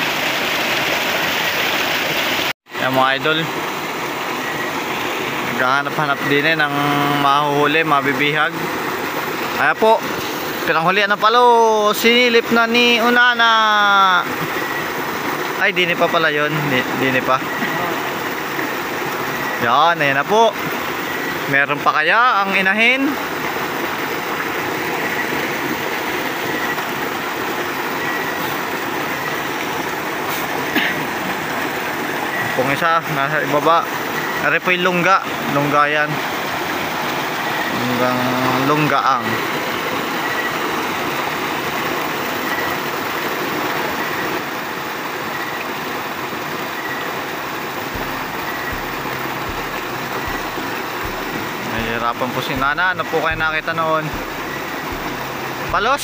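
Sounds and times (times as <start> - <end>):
water pouring over cascade: 0.0 - 56.0.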